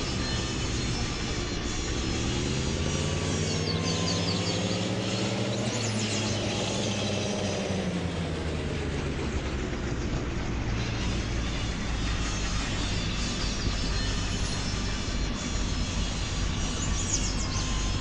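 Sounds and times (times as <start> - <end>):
birds chirping: 0.0 - 7.8, 9.8 - 18.0
vehicle engine running: 0.0 - 18.0.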